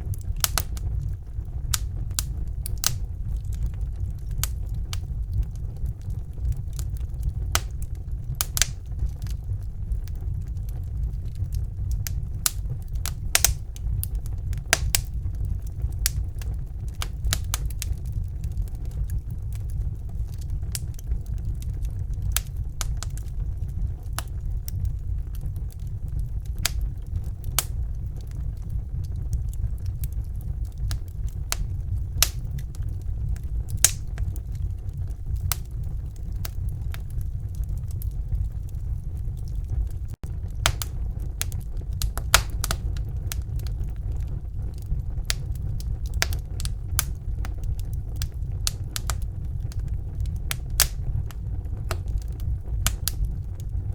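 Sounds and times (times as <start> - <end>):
fire crackling and popping: 0.0 - 53.9
low rumble of flames: 0.0 - 53.9.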